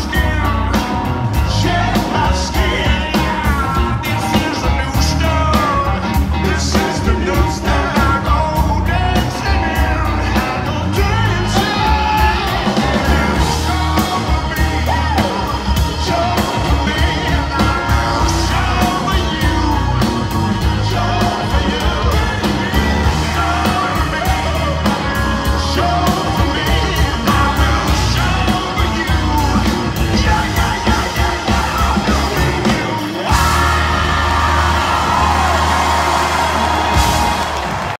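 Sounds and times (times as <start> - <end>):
man singing and shouting: 0.0 - 37.1
live rock band with horns: 0.0 - 38.0.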